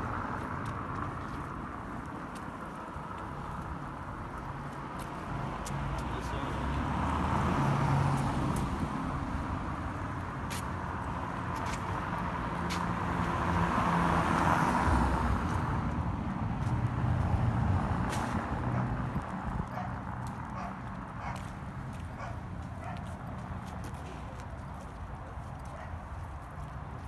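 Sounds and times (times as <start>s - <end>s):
cars passing on street: 0.0s - 27.0s
low traffic rumble: 0.0s - 27.0s.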